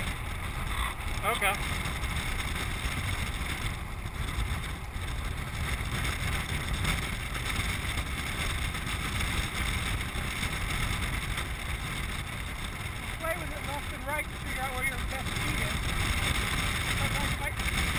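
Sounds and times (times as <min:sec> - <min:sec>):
steady low rumble: 0:00.0 - 0:17.9
wind rushing over camera: 0:00.0 - 0:17.9.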